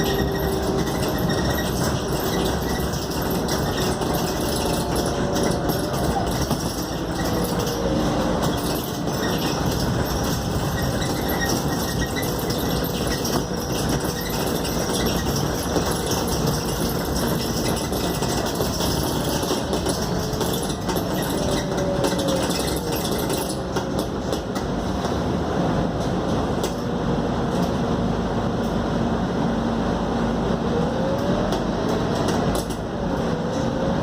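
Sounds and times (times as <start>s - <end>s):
bus diesel engine: 0.0s - 34.0s
faint drivetrain whine: 0.0s - 34.0s
road rumble: 0.0s - 34.0s.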